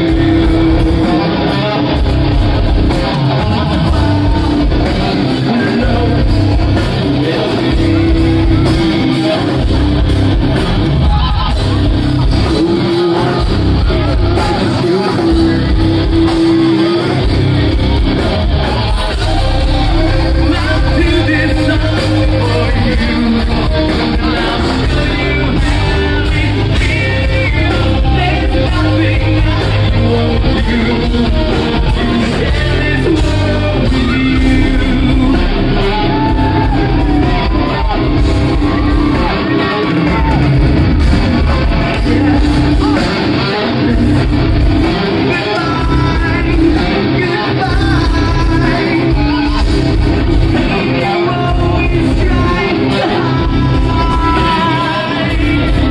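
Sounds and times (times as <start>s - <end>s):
live rock band playing: 0.0s - 55.9s
person singing: 0.0s - 55.9s.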